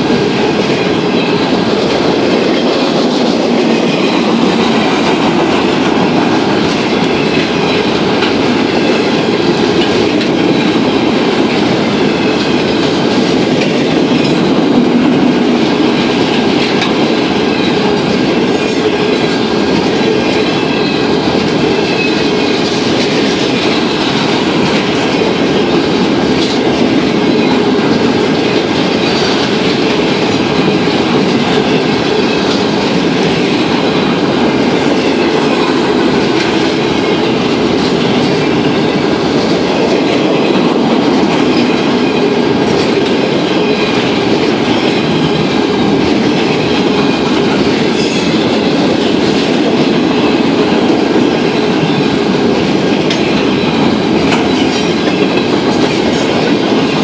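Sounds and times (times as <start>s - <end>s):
steel wheels rumbling on rail: 0.0s - 57.0s
train clickety-clack: 0.0s - 57.0s.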